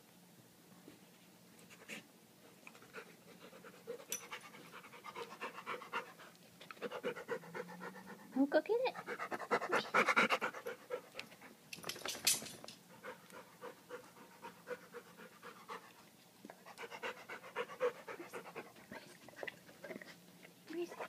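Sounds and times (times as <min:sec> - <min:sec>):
dog panting: 0:01.7 - 0:11.6, 0:12.8 - 0:21.0.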